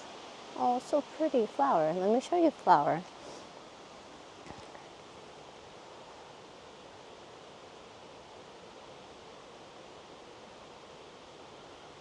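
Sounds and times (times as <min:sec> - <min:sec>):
distant waterfall rushing: 0:00.0 - 0:12.0.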